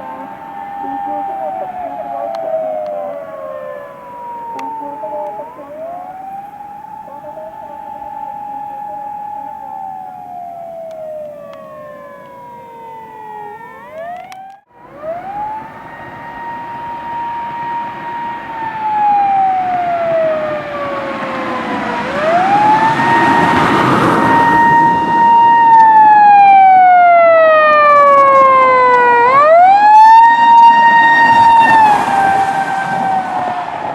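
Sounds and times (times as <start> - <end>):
electronic wail sirens: 0.0 - 33.9
vehicle road noise: 0.0 - 33.9.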